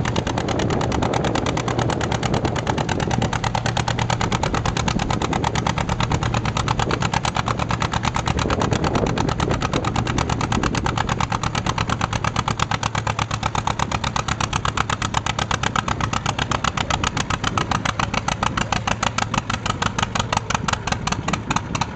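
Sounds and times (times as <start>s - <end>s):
tractor engine popping under load: 0.0s - 21.9s.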